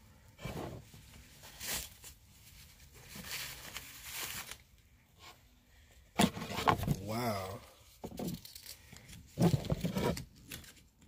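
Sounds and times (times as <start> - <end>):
fabric and cardboard rustling: 0.2 - 10.9.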